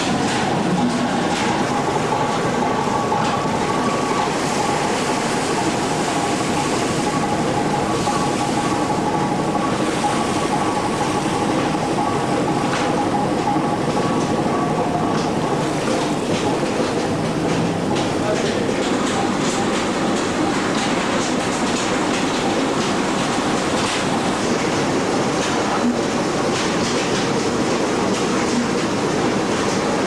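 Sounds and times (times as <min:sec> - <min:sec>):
boat engine and deck machinery: 0:00.0 - 0:30.0
churning wake rushing: 0:00.0 - 0:30.0.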